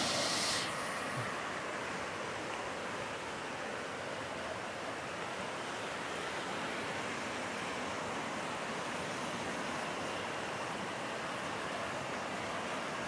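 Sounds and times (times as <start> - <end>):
rushing creek water: 0.0 - 13.0.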